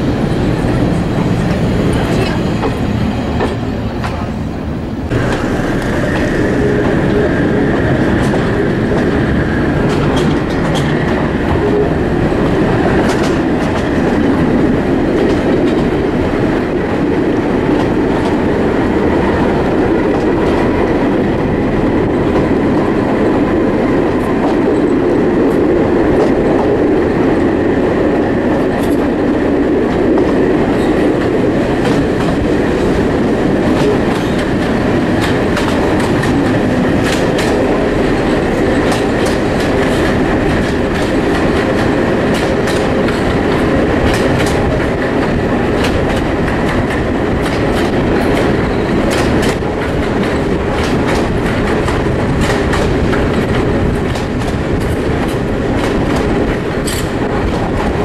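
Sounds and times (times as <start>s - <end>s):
rail joint clicks: 0.0s - 58.0s
train wheels rumbling on track: 0.0s - 58.0s.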